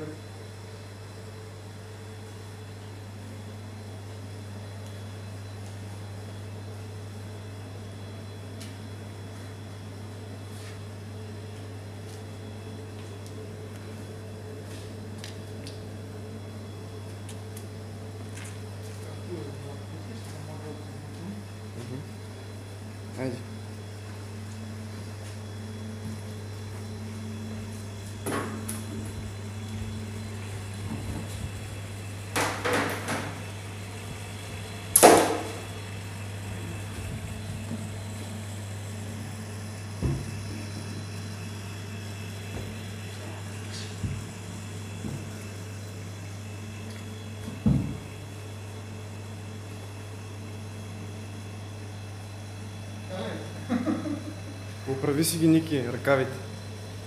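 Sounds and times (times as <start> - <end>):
refrigeration compressor humming: 0.0 - 57.0.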